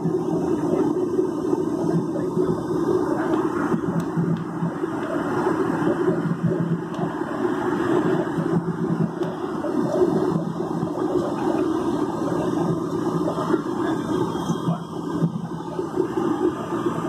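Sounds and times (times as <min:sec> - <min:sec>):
jet cabin engine rush: 0:00.0 - 0:17.0.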